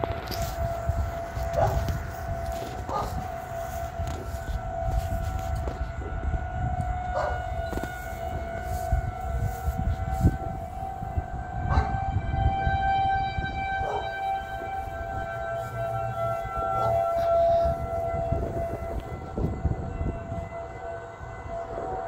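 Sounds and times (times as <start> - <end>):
warning siren steady tone: 0.0 - 22.0.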